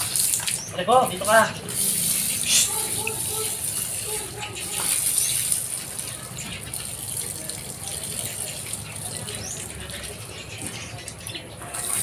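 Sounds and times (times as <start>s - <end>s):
hose water spraying: 0.0s - 10.2s
water splashing on concrete: 0.0s - 12.0s.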